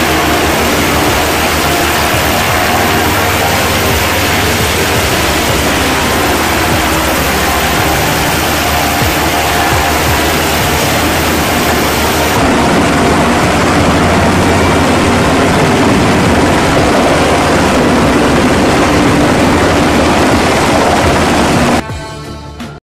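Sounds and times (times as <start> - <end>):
helicopter hovering overhead: 0.0 - 21.8.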